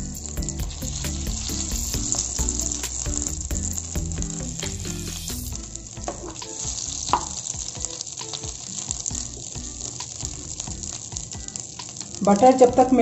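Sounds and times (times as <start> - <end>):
butter sizzling in a pan: 0.0 - 13.0.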